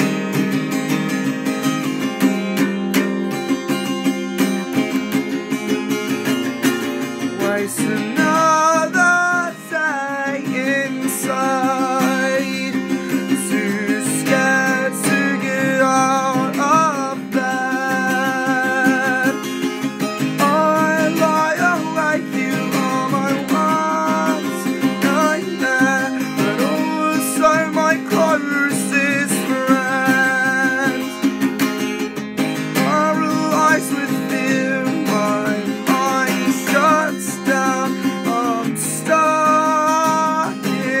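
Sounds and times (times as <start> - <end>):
strummed acoustic guitar: 0.0 - 41.0.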